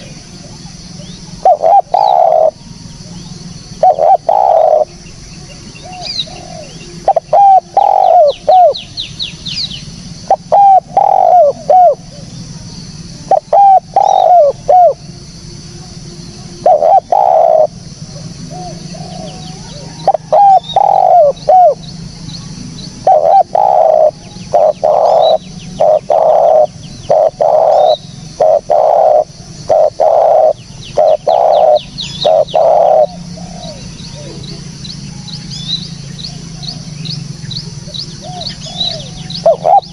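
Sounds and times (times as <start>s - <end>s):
dove cooing: 0.0s - 22.2s, 22.9s - 39.9s
small birds chirping: 0.0s - 39.9s.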